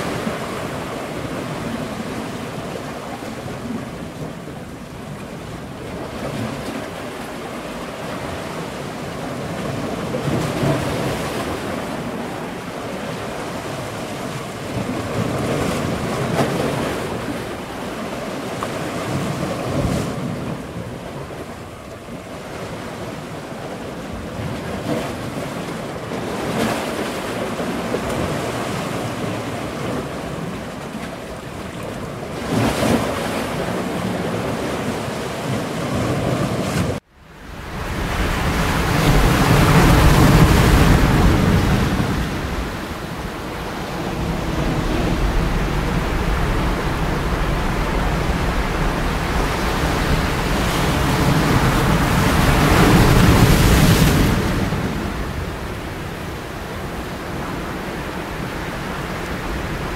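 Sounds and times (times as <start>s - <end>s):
ocean waves washing: 0.0s - 59.9s.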